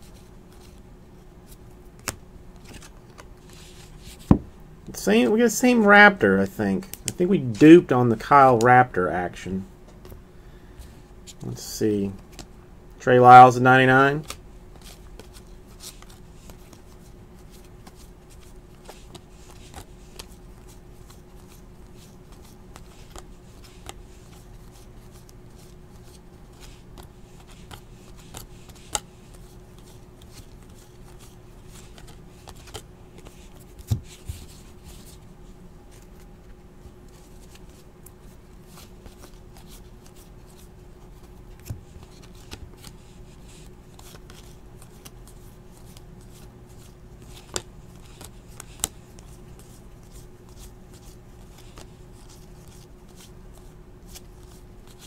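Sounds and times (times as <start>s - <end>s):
cards rustling and flicking: 0.0s - 0.8s, 1.4s - 4.4s, 10.8s - 12.5s, 13.2s - 35.3s, 35.9s - 55.0s
steady low hum: 0.0s - 55.0s.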